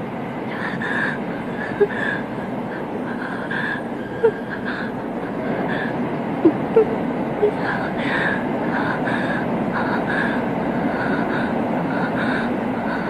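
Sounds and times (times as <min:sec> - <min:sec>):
train running from inside carriage: 0:00.0 - 0:13.0.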